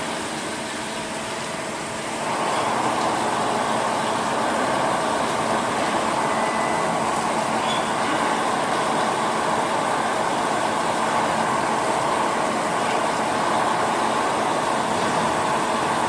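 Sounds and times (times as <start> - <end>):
lathe machine noise: 1.0 - 16.0.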